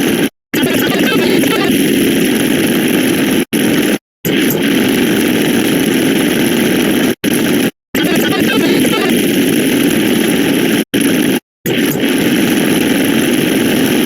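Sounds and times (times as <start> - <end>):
rapid stacked counting sound effects: 0.0 - 14.0.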